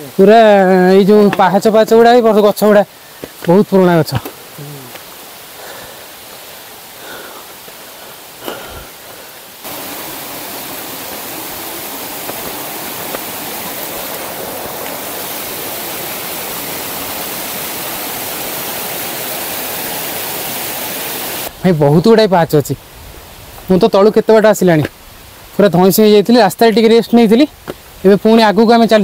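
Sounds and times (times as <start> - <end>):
rush of flowing water: 0.0 - 29.0.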